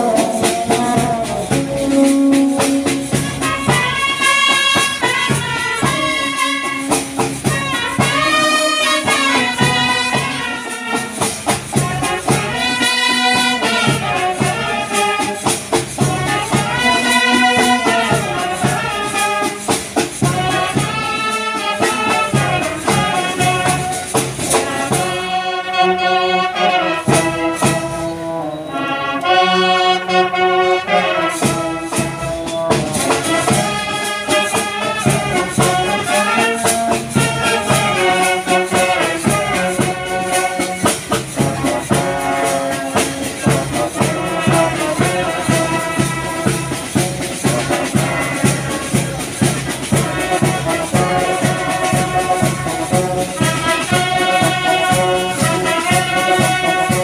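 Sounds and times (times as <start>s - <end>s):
brass band playing: 0.0s - 57.0s
percussion keeping time: 0.0s - 57.0s.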